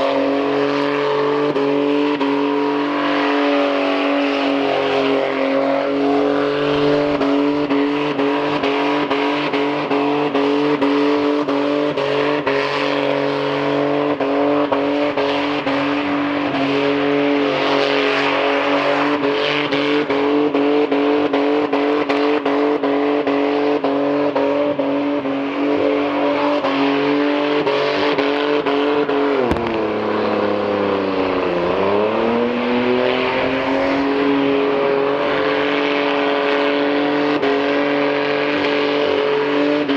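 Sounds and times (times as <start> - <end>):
car engine running: 0.1 - 35.8.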